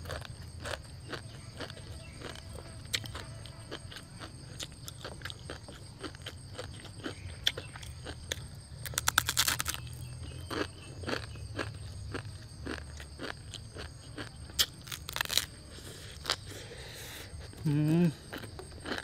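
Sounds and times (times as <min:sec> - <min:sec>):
crunching dry noodles: 0:00.0 - 0:19.0.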